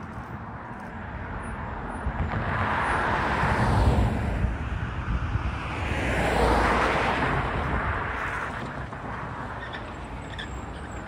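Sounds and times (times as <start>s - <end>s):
vehicles passing on highway: 0.0s - 11.0s.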